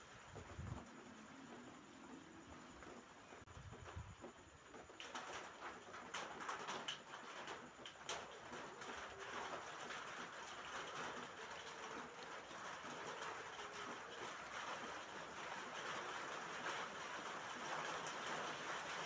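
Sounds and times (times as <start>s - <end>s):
rain falling on a roof: 0.0s - 19.0s.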